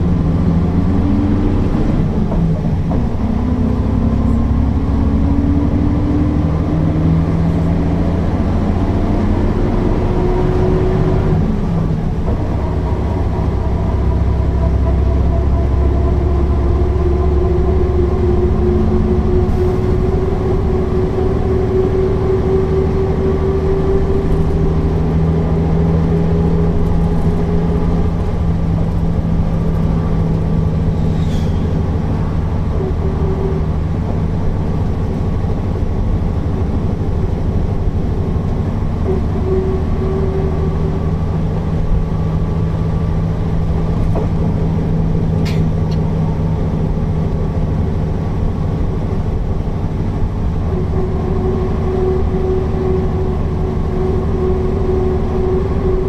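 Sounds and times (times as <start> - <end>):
bus diesel engine driving: 0.0 - 56.0.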